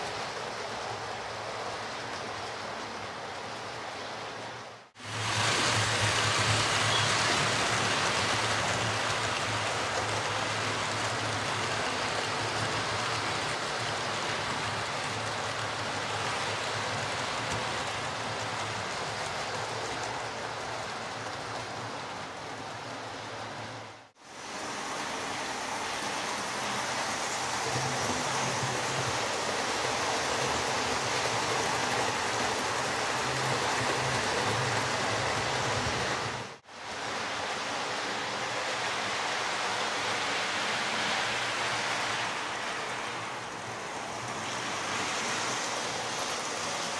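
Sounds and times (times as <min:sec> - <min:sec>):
model train wheels on rail: 0:00.0 - 0:46.9.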